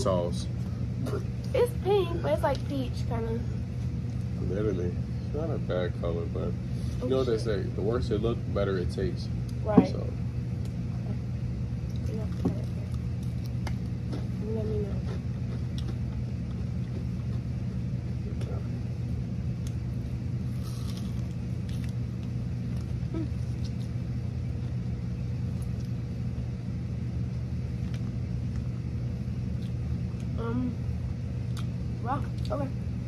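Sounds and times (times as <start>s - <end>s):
low rumbling hum: 0.0s - 33.0s.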